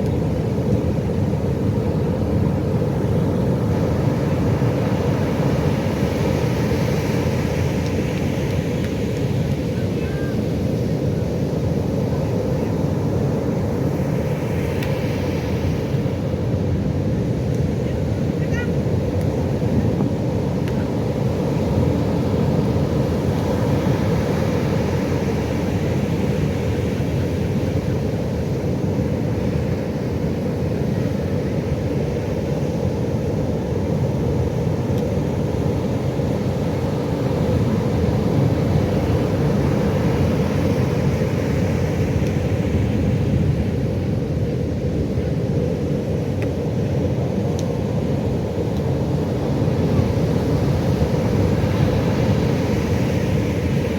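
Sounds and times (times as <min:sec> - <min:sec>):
ocean waves rumbling: 0:00.0 - 0:53.9.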